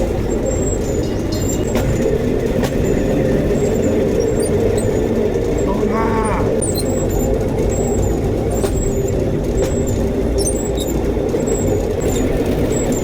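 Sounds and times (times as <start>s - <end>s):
high-pitched wheel squeaks: 0.0s - 13.0s
sharp clicks of wheels: 0.0s - 13.0s
steel wheels rumbling on rails: 0.0s - 13.0s.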